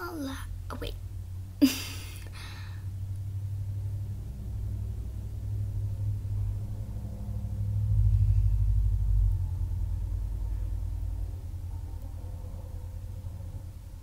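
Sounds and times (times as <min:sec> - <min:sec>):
low rumble: 0:00.4 - 0:14.0.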